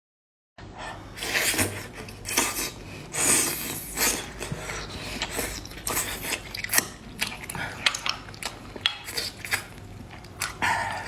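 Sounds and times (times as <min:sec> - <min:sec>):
sucking and crunching while eating: 0:01.2 - 0:11.0.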